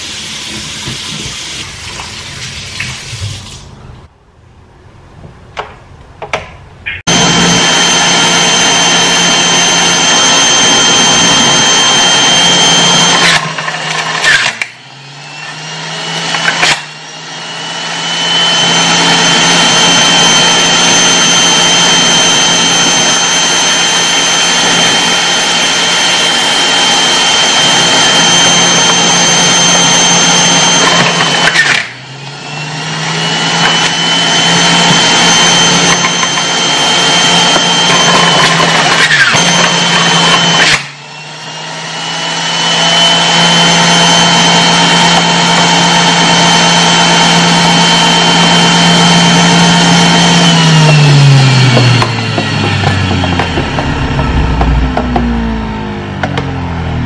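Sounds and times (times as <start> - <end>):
electric juicer motor whining: 7.1 - 57.0.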